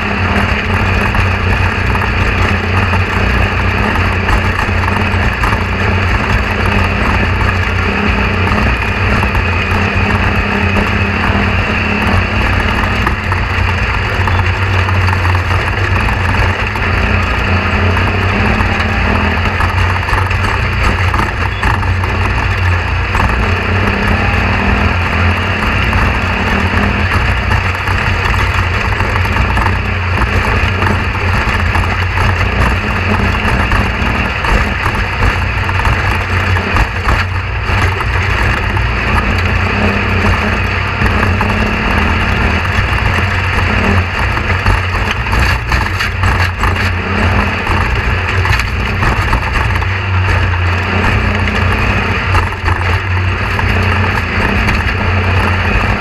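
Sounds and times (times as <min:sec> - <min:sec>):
low mechanical drone: 0:00.0 - 0:56.0.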